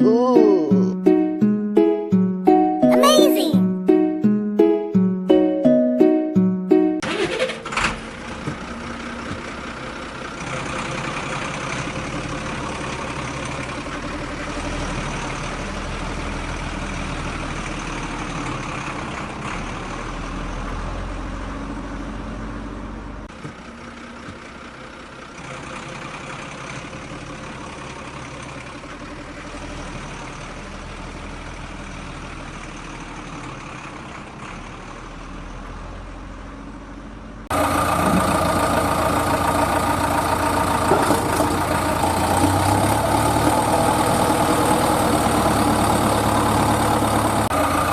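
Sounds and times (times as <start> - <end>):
engine running: 4.9 - 47.9.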